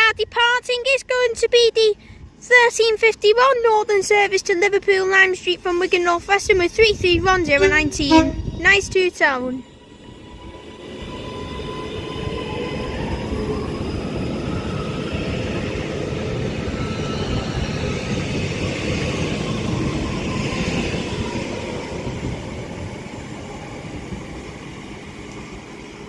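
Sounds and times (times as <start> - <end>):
train wheel and motor noise: 0.0 - 26.0.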